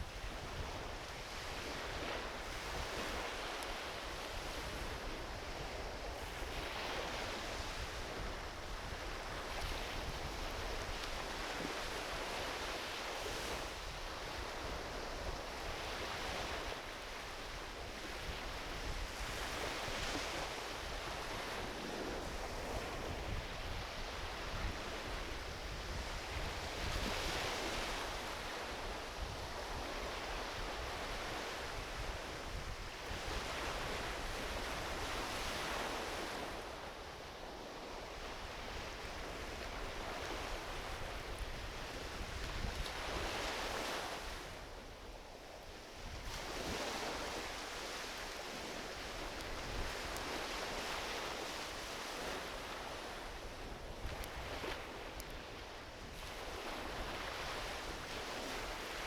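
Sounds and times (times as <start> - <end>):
small waves washing onto beach: 0.0 - 59.0
wind rumble on microphone: 0.0 - 59.0.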